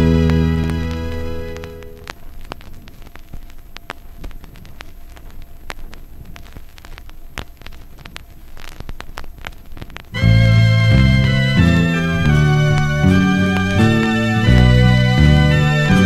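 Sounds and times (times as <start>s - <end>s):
faint hiss: 0.0s - 14.5s
vinyl record clicks and pops: 0.0s - 16.0s.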